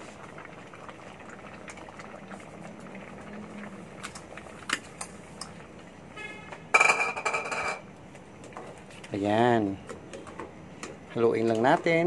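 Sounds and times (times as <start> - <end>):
pot boiling with bubbling: 0.0 - 12.0.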